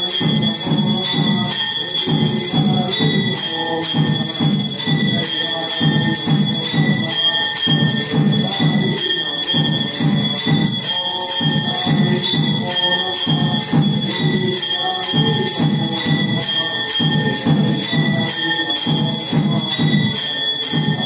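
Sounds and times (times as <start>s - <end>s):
bells ringing: 0.0s - 21.0s
low repeating beat: 0.0s - 21.0s.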